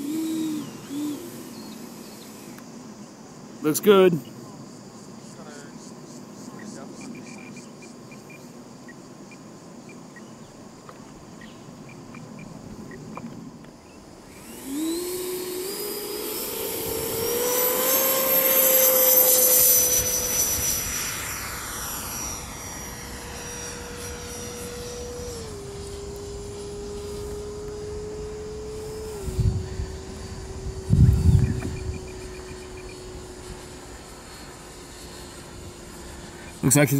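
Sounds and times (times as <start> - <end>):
electric ducted fan whine: 0.0 - 36.9.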